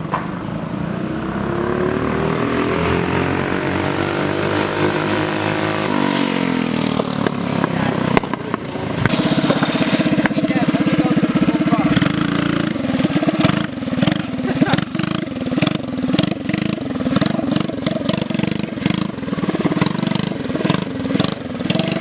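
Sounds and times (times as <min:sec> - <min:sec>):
small engine passing at speed: 0:00.4 - 0:22.0
small engine running close by: 0:00.4 - 0:22.0.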